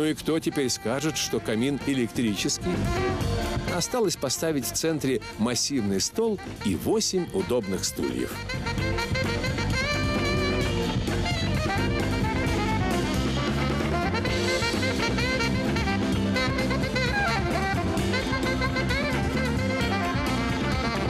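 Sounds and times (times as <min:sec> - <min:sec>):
upbeat jazz music: 0:00.0 - 0:21.0
saxophone: 0:00.4 - 0:21.0
drum kit: 0:00.8 - 0:21.0.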